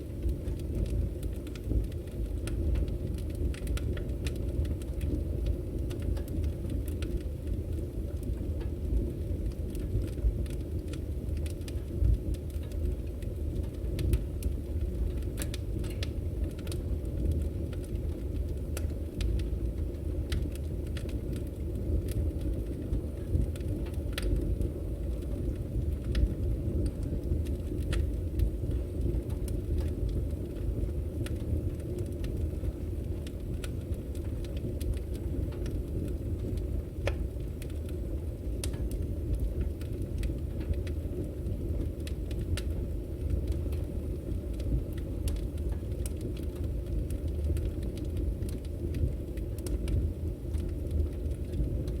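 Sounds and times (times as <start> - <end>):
fire crackling and popping: 0.0 - 52.0
low rumble of flame: 0.0 - 52.0.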